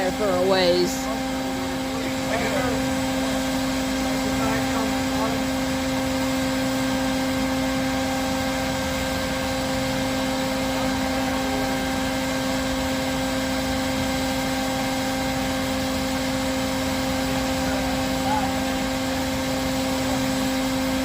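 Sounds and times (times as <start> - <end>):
motor humming: 0.0 - 21.0.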